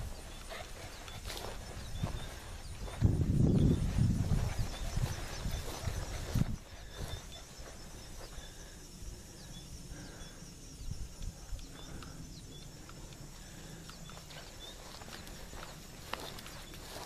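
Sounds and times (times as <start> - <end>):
footsteps on dirt trail: 0.0 - 8.8, 11.7 - 17.0
small birds chirping: 0.0 - 17.0.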